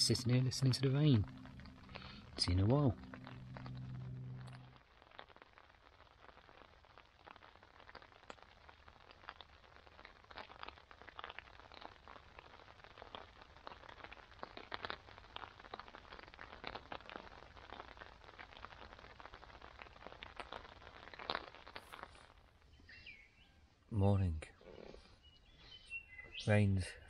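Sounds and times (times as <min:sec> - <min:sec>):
rain drops on tent fabric: 0:00.0 - 0:23.3.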